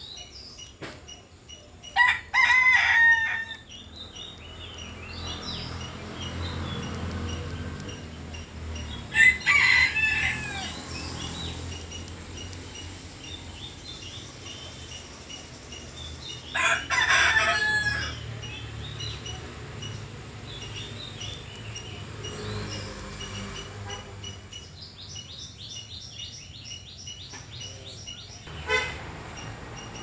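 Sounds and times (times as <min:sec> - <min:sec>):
small birds chirping faintly: 0:00.0 - 0:30.0.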